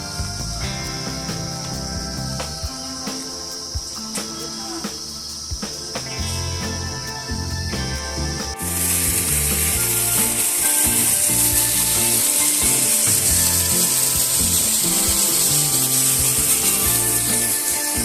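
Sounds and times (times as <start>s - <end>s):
background music: 0.0s - 18.0s
high-pitched hiss: 0.0s - 18.0s.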